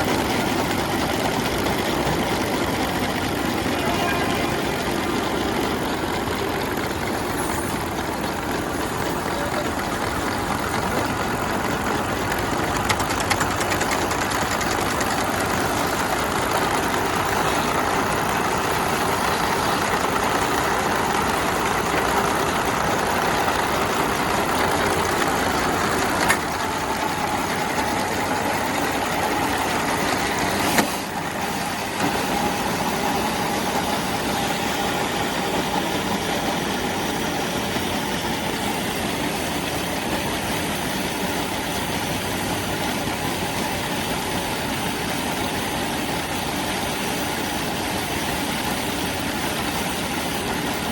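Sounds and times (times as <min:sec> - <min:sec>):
feed-processing machine running: 0:00.0 - 0:50.9.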